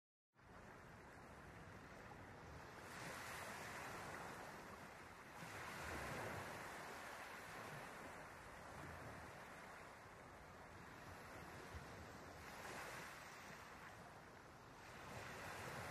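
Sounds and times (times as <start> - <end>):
wind on microphone: 0.5 - 15.9.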